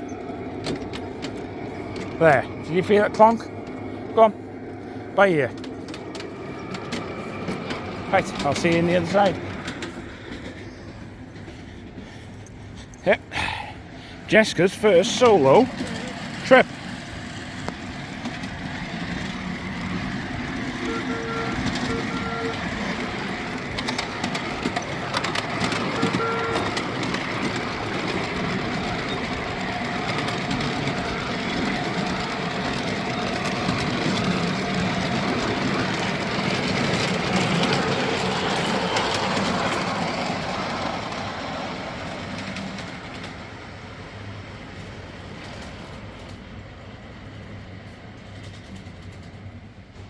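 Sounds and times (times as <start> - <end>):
train wheels clattering on rails: 0.0 - 50.0.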